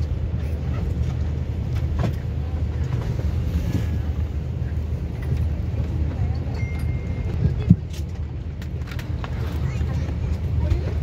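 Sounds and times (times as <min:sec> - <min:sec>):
cabin air-conditioning rumble: 0:00.0 - 0:11.0.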